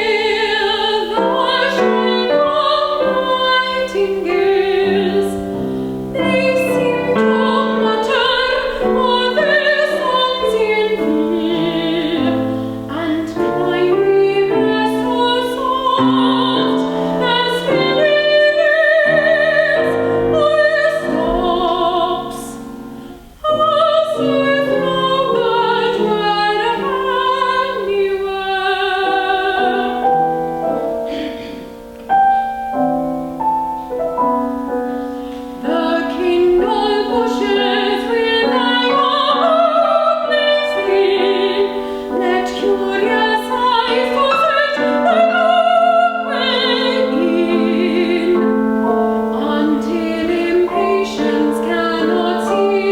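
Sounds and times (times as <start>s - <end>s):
woman singing operatically: 0.0s - 30.1s, 35.5s - 52.9s
piano accompaniment: 0.0s - 52.9s.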